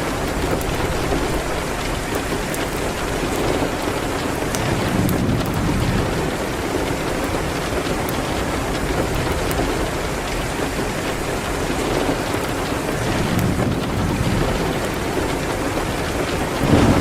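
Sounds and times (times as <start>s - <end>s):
rain hitting a window: 0.0s - 17.0s
wood fire crackling: 0.0s - 17.0s.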